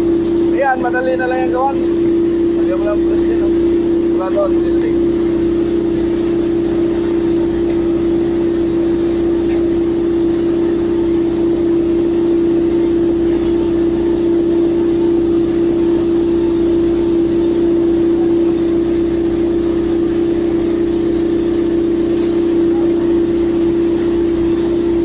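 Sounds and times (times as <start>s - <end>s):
construction machinery humming: 0.0s - 25.0s.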